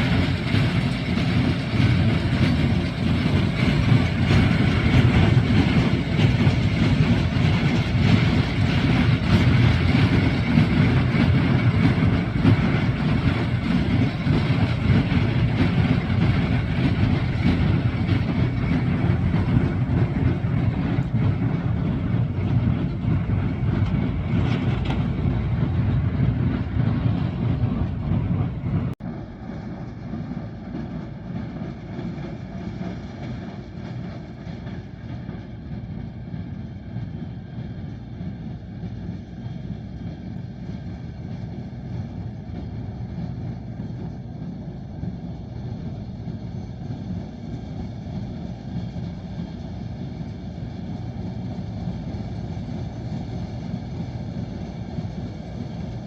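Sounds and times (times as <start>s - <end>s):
tractor running: 0.0s - 56.0s.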